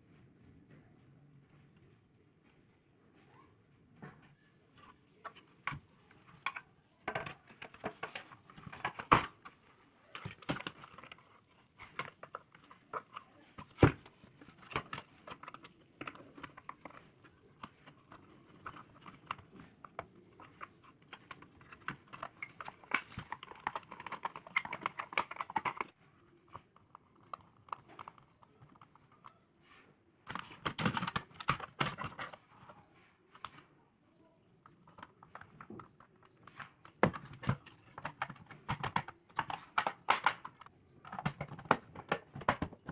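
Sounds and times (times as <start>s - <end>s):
plastic parts clicking and rustling: 3.9s - 33.7s, 34.4s - 42.9s.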